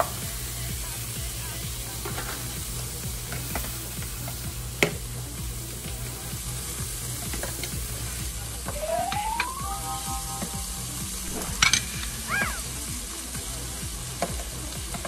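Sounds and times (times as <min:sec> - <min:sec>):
vegetables sizzling in a pot: 0:00.0 - 0:15.0.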